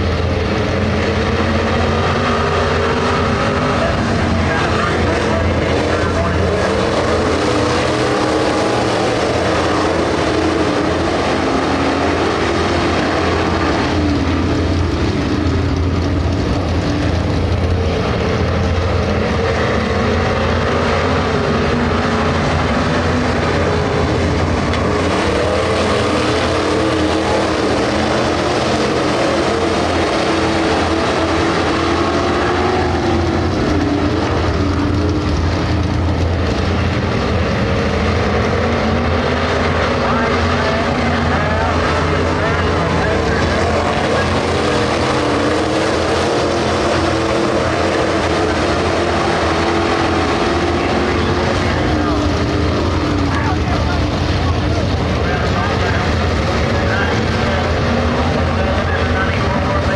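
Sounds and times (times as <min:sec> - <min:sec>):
race car engines roaring: 0:00.0 - 0:59.9.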